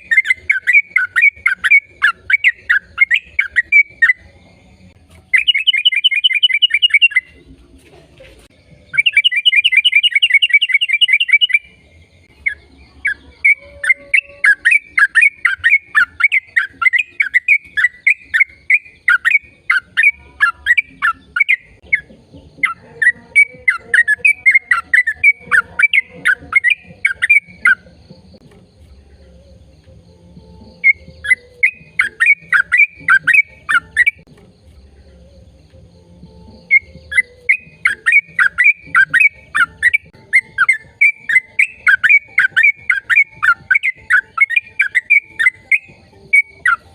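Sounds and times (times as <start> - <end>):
bird chirping: 0.0 - 7.6, 8.5 - 46.9.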